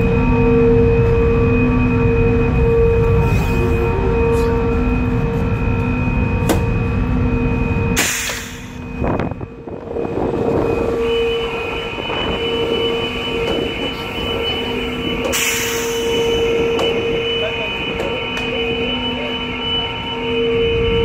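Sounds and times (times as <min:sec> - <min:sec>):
ferry machinery hum: 0:00.0 - 0:21.0
low rumble: 0:00.0 - 0:21.0.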